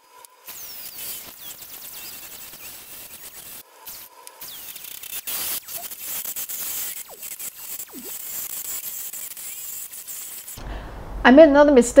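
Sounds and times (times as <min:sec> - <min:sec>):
drill bit squeaks: 0:00.5 - 0:10.6
drill press cutting metal: 0:00.5 - 0:10.8.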